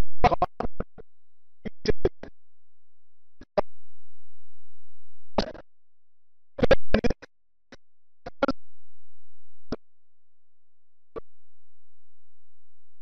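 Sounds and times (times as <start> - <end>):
faint low hum: 0.0 - 7.2, 8.3 - 9.8, 11.2 - 13.0.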